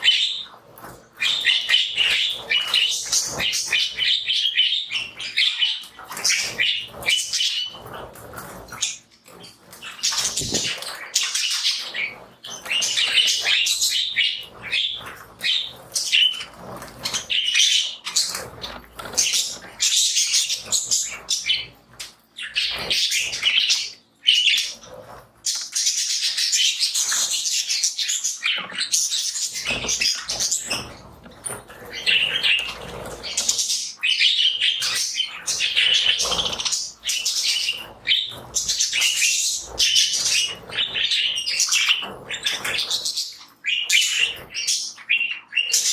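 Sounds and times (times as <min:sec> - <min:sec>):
budgerigars chirping and chattering: 0:00.0 - 0:45.9.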